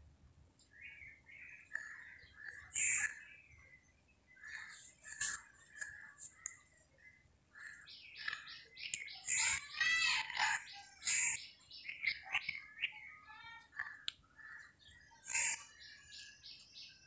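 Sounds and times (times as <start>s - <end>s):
small birds chirping: 0.5s - 17.0s.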